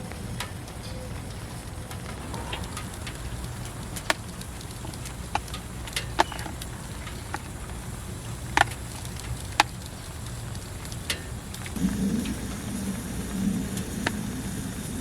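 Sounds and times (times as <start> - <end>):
low rumble of rain: 0.0 - 15.0
raindrops ticking on a tarp: 0.0 - 15.0.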